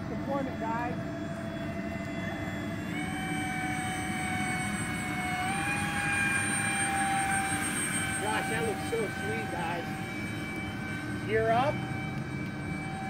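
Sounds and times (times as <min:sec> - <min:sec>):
electric ducted fans whining: 0:00.0 - 0:13.0.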